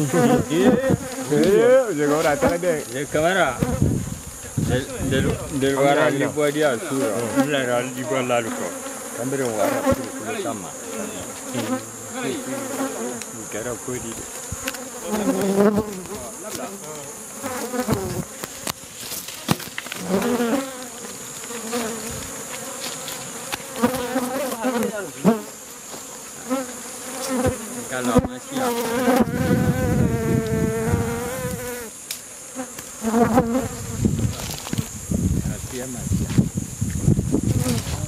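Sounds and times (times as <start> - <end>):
bees buzzing: 0.0 - 35.4, 36.5 - 38.0.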